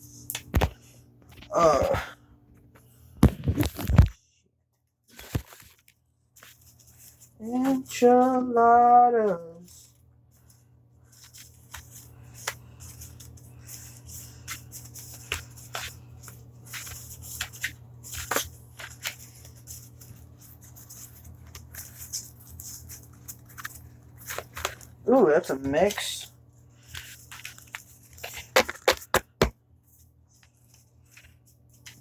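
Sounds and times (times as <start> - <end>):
cards being shuffled: 0.1 - 1.9, 3.2 - 4.1, 5.1 - 8.6, 9.2 - 32.0.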